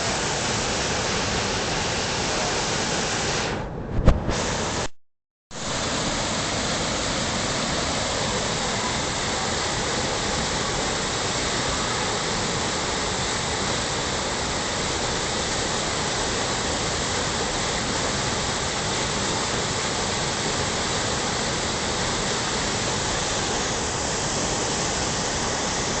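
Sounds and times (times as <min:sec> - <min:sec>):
creek water rushing through rapids: 0:00.0 - 0:03.5, 0:05.6 - 0:26.0.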